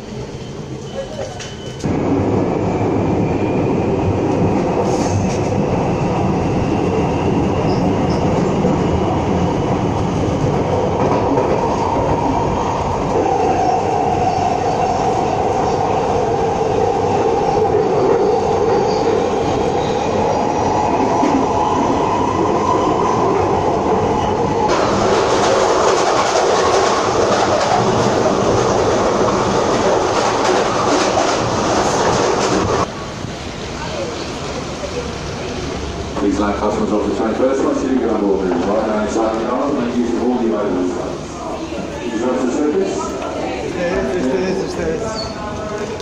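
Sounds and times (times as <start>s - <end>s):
train rumble and rattle: 0.0s - 46.0s
train whine: 0.0s - 46.0s.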